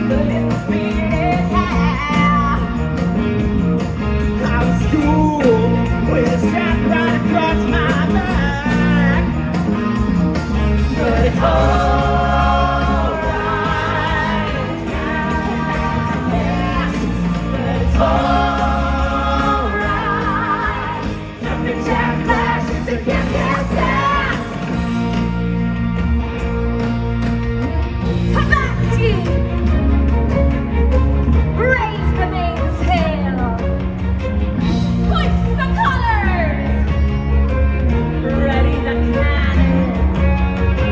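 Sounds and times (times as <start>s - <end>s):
electric guitars: 0.0s - 40.9s
steady bass: 0.0s - 40.9s.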